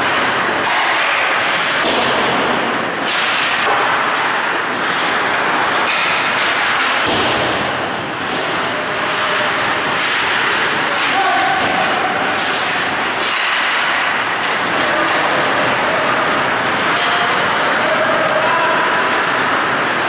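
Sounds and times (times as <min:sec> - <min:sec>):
hockey sticks and puck knocking: 0:00.0 - 0:12.0, 0:12.7 - 0:20.0
skates rushing on ice: 0:00.0 - 0:20.0.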